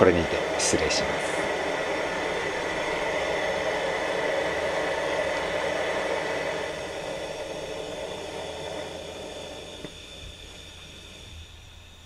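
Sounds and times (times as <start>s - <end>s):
kerosene burner hissing: 0.0s - 12.0s.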